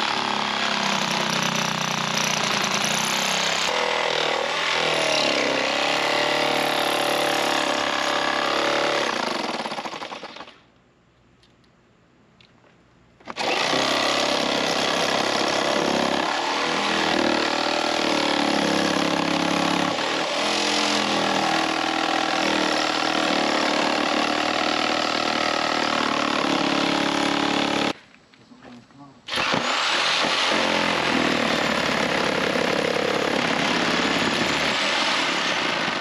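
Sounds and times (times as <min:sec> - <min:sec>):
jigsaw cutting metal: 0:00.0 - 0:10.6, 0:13.3 - 0:28.0, 0:29.3 - 0:36.0.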